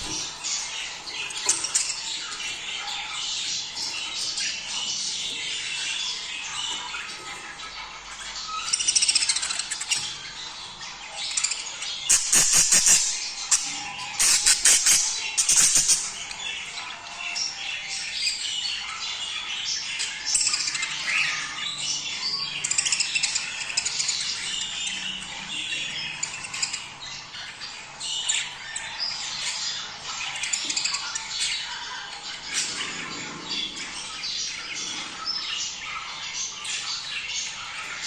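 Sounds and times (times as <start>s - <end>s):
budgerigars chattering: 0.0s - 38.0s.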